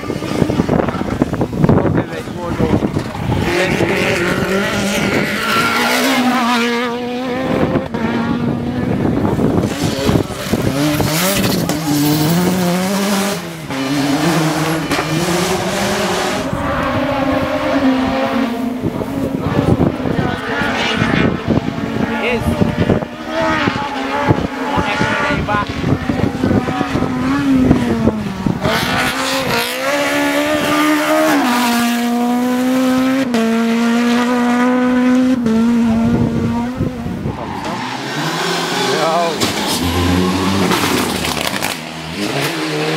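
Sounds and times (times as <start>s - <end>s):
race car engine at high revs: 0.0s - 42.9s.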